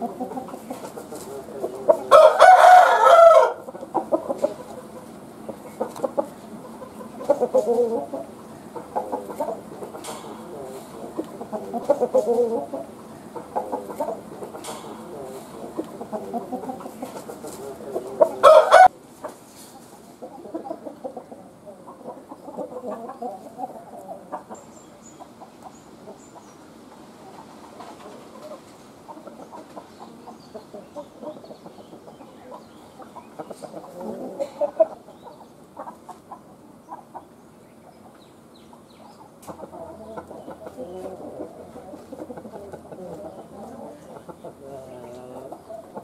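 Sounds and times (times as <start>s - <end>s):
chickens clucking: 0.0s - 46.0s.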